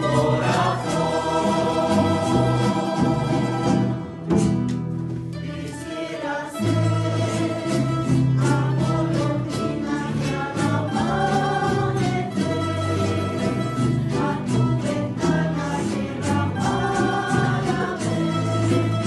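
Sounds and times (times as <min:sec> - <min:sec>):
choir singing: 0:00.0 - 0:04.3, 0:05.4 - 0:19.0
mandolins and guitars playing: 0:00.0 - 0:19.0.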